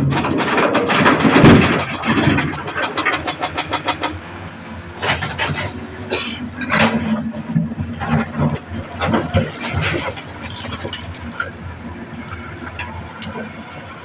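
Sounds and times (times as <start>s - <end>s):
heavy diesel machinery clattering: 0.0s - 14.0s.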